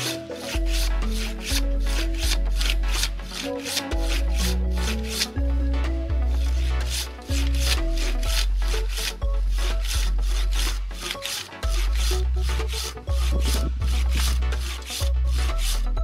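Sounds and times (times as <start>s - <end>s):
hand saw cutting a log: 0.0s - 16.0s
music with heavy bass: 0.0s - 16.0s.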